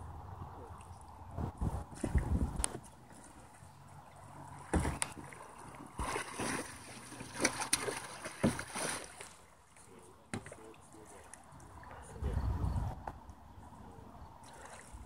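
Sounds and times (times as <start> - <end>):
water splashing around kayak: 0.6 - 13.4, 14.4 - 15.0.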